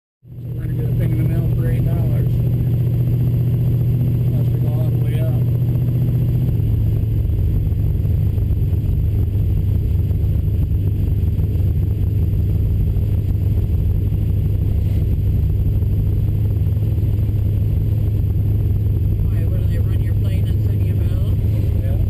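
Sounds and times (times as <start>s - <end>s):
car engine running with low drone: 0.2s - 22.0s.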